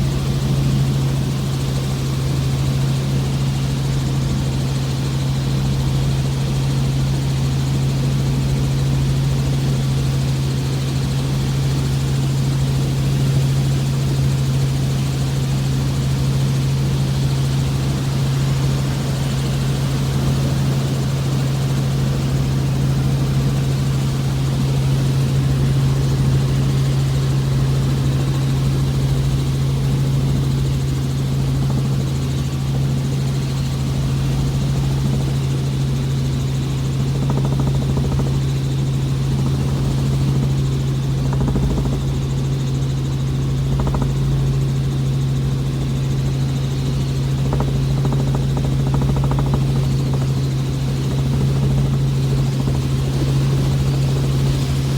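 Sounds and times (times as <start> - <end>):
helicopter drone: 0.0 - 54.9.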